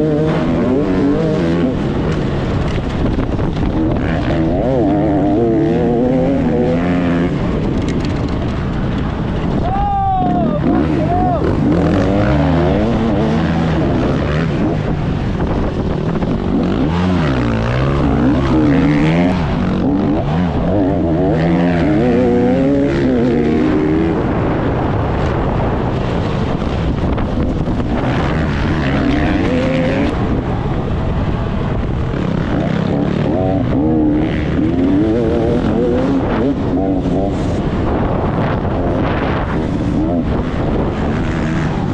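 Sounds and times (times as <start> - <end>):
motocross bike engine revving: 0.0 - 9.5, 10.1 - 30.4, 31.9 - 41.9.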